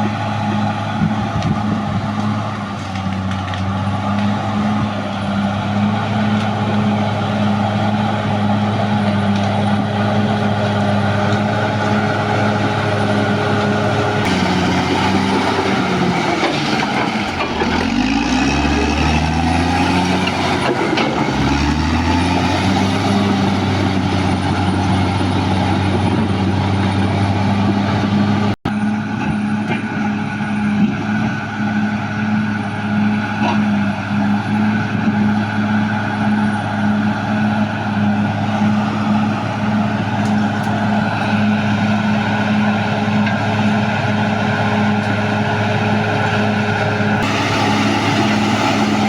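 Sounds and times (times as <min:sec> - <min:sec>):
bulldozer diesel engine running hard: 0:00.0 - 0:49.0.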